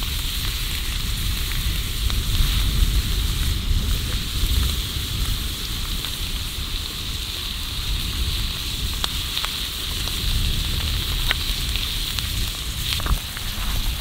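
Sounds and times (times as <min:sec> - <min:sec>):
steak sizzling: 0:00.0 - 0:14.0.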